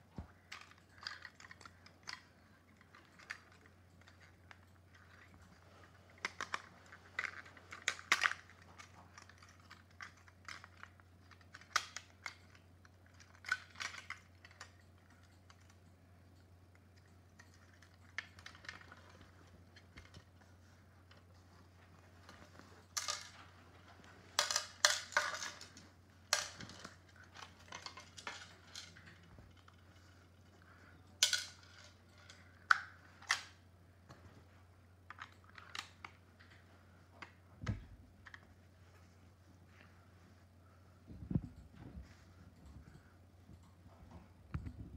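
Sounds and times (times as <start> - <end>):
plastic phone parts clicking and rattling: 0.2 - 21.3, 22.1 - 33.6, 35.0 - 38.5.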